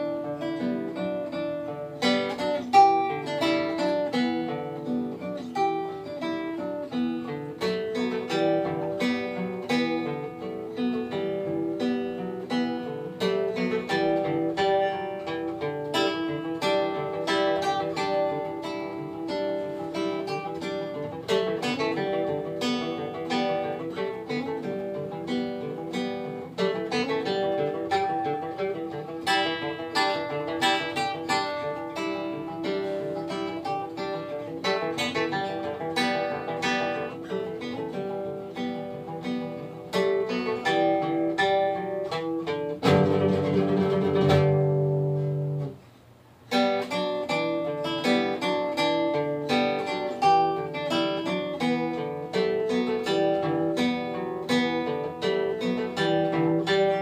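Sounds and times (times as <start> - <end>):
acoustic guitar music: 0.0 - 57.0.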